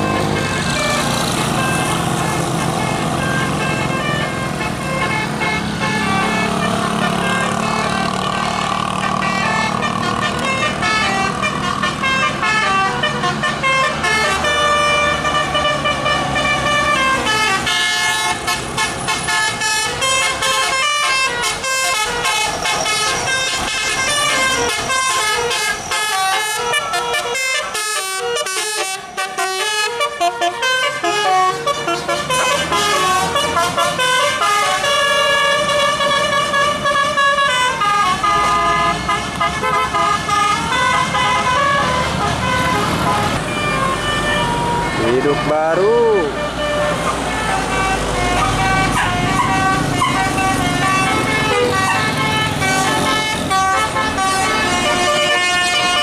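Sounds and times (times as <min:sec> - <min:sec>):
musical air horn playing tune: 0:00.0 - 0:56.0.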